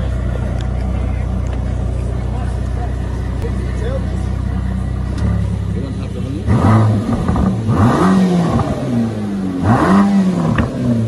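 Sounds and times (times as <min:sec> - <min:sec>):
car engine revving: 0:00.0 - 0:11.0
exhaust crack: 0:00.0 - 0:11.0.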